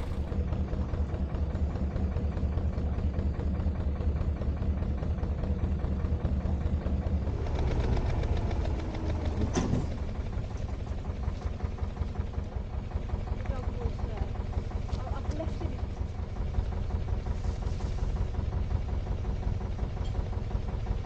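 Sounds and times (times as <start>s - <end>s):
boat diesel engine running: 0.0s - 21.0s.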